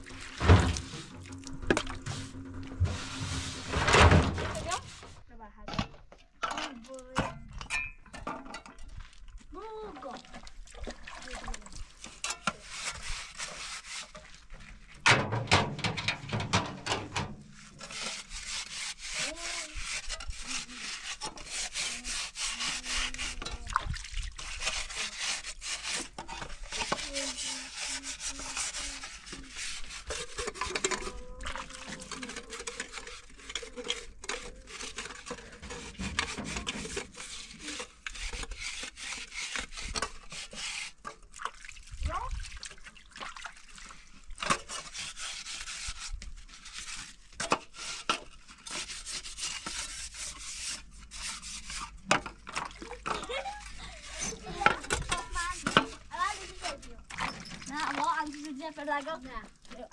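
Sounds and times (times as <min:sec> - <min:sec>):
metal pipe being scrubbed: 0:00.0 - 0:05.2, 0:11.9 - 0:41.2, 0:44.4 - 0:58.0.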